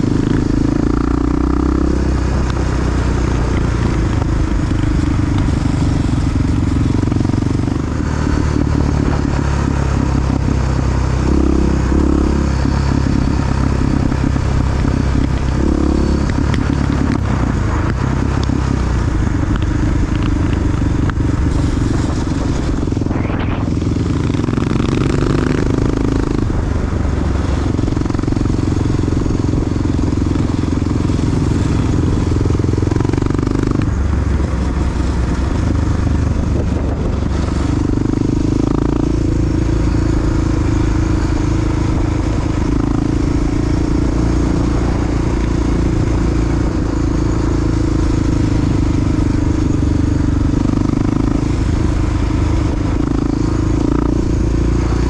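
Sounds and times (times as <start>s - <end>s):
motorcycle engine running: 0.0s - 55.0s
rushing noise: 0.0s - 55.0s.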